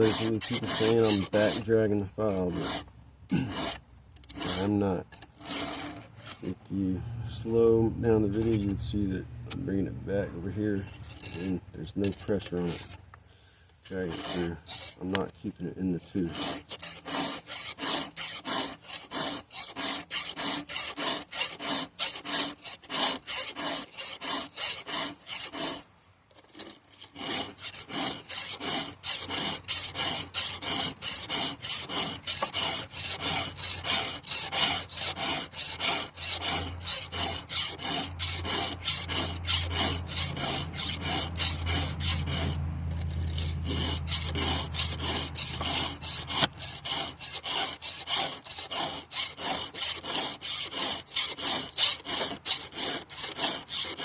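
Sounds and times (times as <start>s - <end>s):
file rasping on chainsaw chain: 0.0s - 6.8s, 7.5s - 13.1s, 13.8s - 54.0s.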